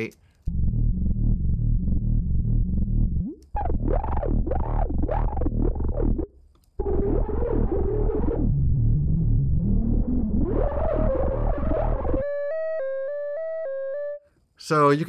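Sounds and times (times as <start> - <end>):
synth bass loop: 0.5 - 14.2.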